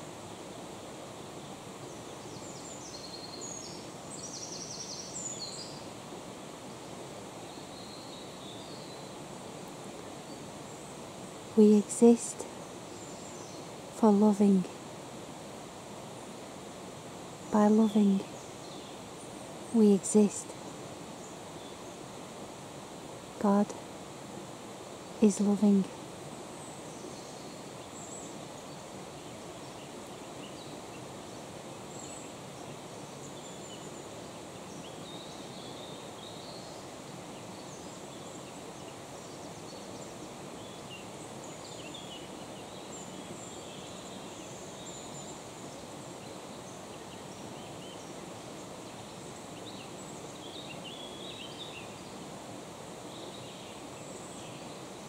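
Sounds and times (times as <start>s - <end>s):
low background rush: 0.0s - 55.0s
small birds chirping and trilling: 1.2s - 6.0s, 6.8s - 14.6s, 17.3s - 22.2s, 25.2s - 52.4s.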